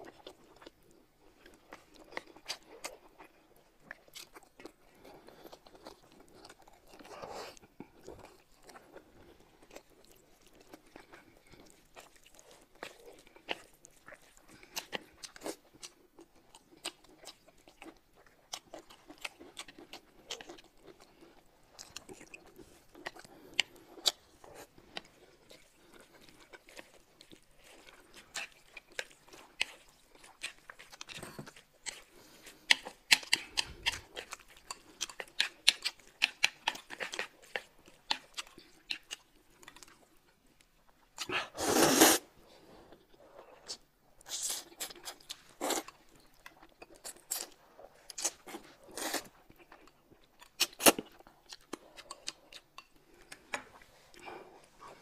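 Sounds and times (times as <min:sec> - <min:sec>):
crunchy chewing: 0:00.0 - 0:42.2, 0:42.8 - 0:55.0.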